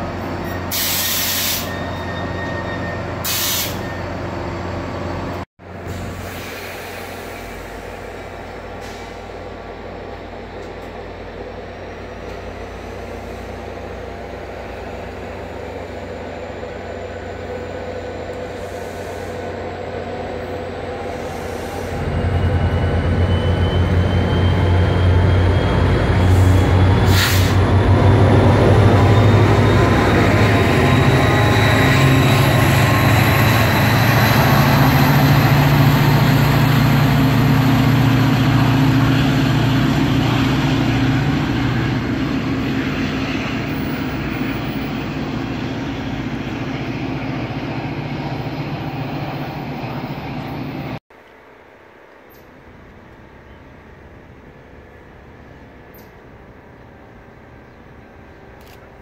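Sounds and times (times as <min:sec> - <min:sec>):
train cars rolling past: 0:00.0 - 0:51.5
diesel locomotive engine: 0:00.0 - 0:59.0.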